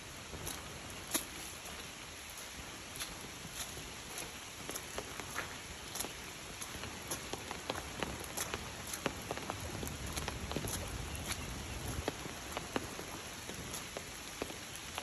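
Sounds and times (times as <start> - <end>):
heavy raindrops tapping: 0.0 - 15.0
steady rain hiss: 0.0 - 15.0.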